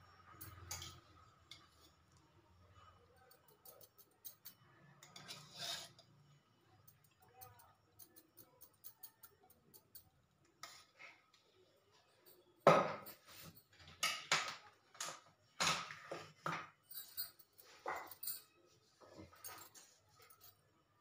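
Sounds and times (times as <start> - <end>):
utensils and dishes clattering: 0.0 - 6.3, 6.9 - 20.8.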